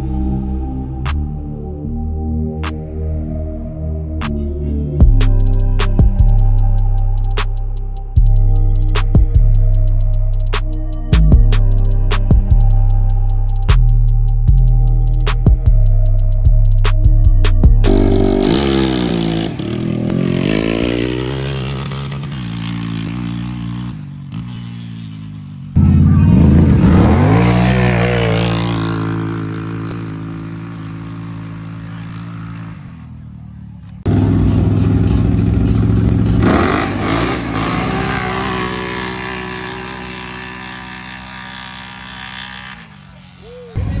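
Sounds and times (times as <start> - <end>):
atv engines revving at full throttle: 5.1 - 44.0.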